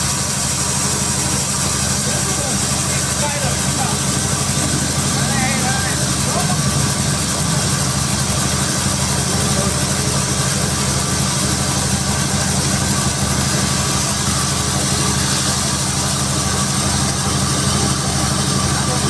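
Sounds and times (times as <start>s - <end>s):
sawmill engine hum: 0.0s - 19.0s.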